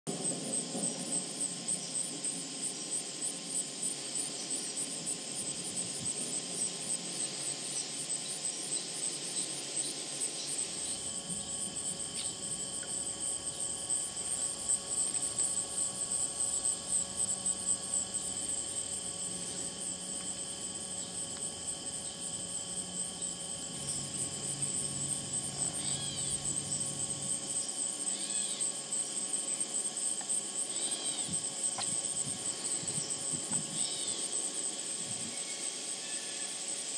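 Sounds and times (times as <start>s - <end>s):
faint insect tones: 0.1s - 36.9s
insects trilling: 0.1s - 36.9s.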